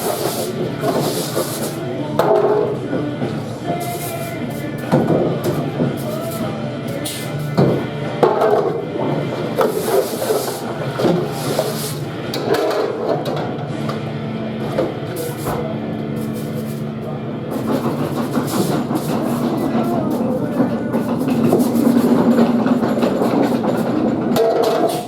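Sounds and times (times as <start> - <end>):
metal trays clattering: 0.0 - 13.6, 17.5 - 25.0
dishwashing machine hum: 0.0 - 25.0.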